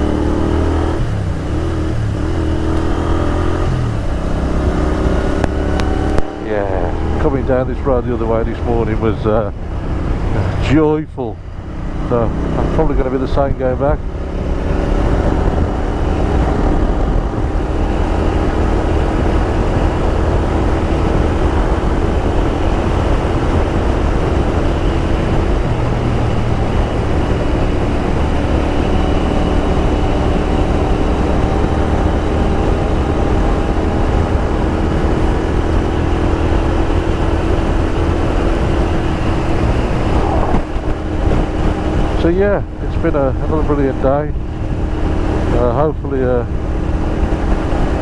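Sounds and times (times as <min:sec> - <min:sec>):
motorcycle engine cruising: 0:00.0 - 0:48.0
wind rush on microphone: 0:00.0 - 0:48.0.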